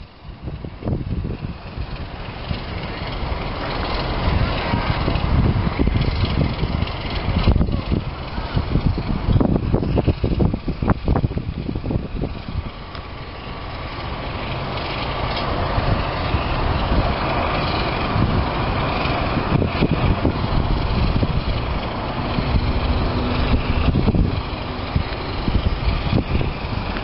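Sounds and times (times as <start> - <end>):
low rumble: 0.0 - 27.0
steam hissing: 0.0 - 27.0.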